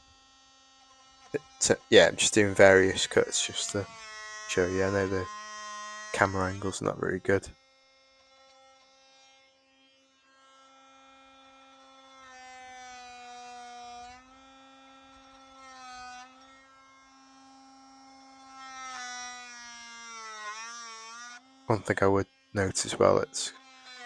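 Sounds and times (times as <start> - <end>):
oscillating multi-tool buzzing: 0.0 - 24.0
blade cutting into wood: 0.7 - 24.0.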